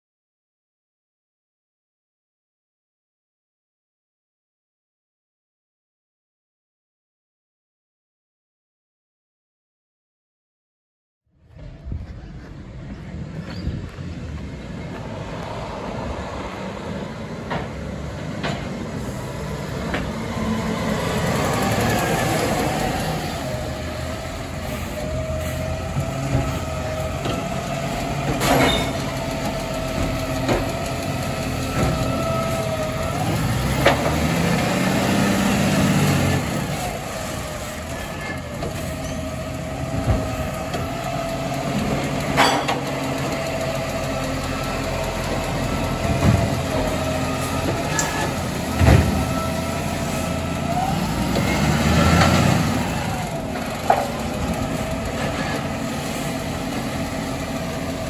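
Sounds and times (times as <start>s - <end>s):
garbage truck diesel engine: 11.4s - 58.0s.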